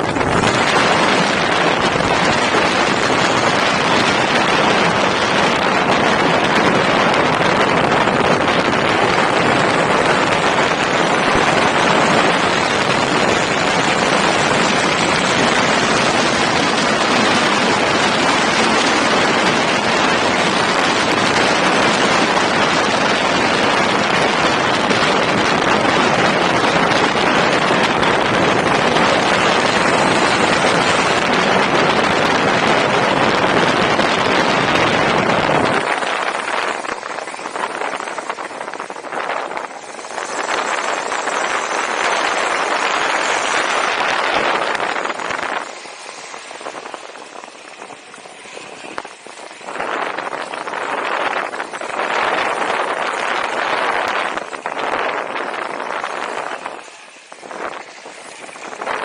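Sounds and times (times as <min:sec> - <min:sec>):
wind rushing across microphone: 0:00.0 - 0:59.0.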